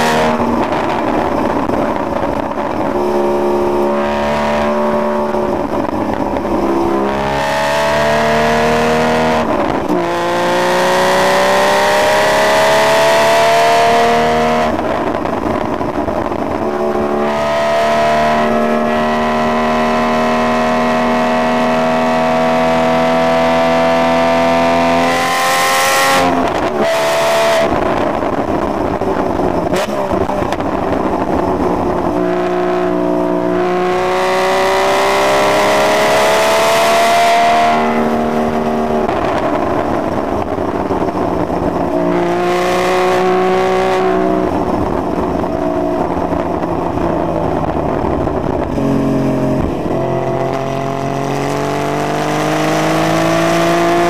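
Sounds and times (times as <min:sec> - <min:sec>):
car engine revving: 0:00.0 - 0:54.0
wind and tyre rush: 0:00.0 - 0:54.0.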